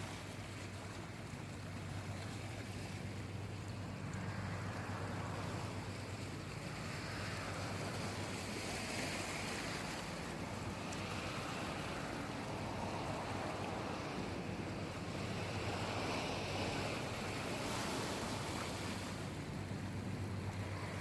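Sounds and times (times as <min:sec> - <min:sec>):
sea waves washing in: 0:00.0 - 0:21.0.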